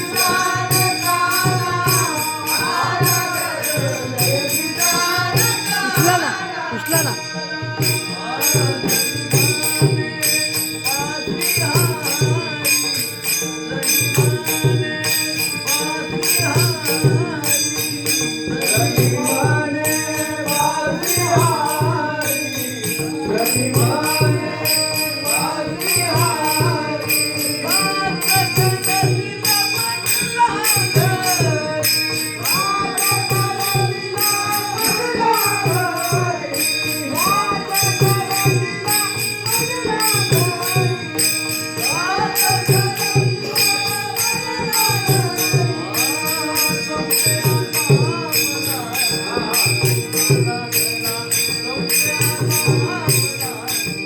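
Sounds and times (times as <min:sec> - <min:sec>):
hand cymbals clashing: 0:00.0 - 0:54.0
man singing: 0:00.0 - 0:54.0.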